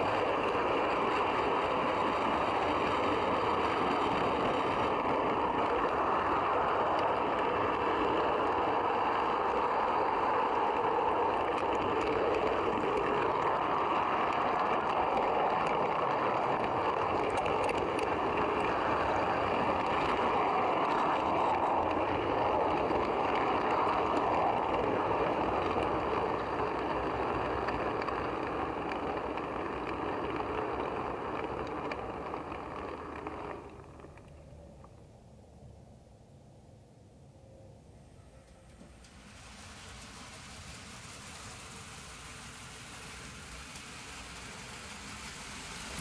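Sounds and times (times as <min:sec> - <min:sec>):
model train rumbling on track: 0:00.0 - 0:35.6, 0:37.5 - 0:46.0.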